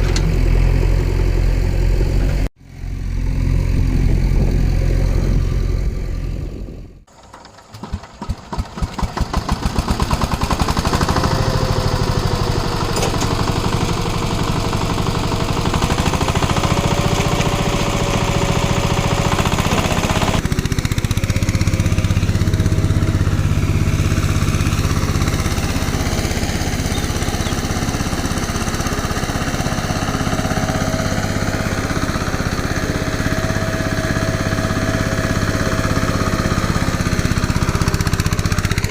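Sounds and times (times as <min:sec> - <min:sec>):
engine chugging: 0:00.0 - 0:38.9.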